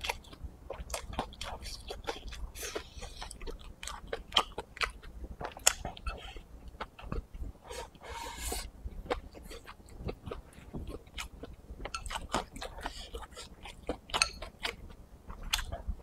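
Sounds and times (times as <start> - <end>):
man chewing with wet smacks: 0.0 - 16.0.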